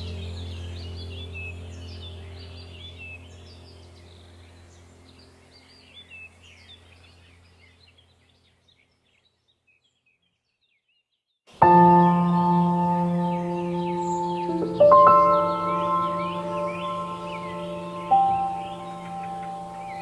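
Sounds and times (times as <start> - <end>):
low steady hum: 0.0 - 8.7, 11.6 - 20.0
small birds chirping: 0.0 - 20.0.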